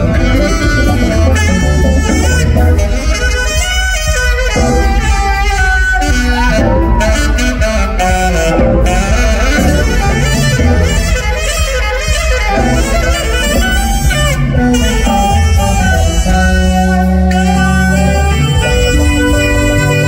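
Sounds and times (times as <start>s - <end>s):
bass: 0.0s - 20.0s
drums: 0.0s - 20.0s
saxophone solo: 0.0s - 20.0s.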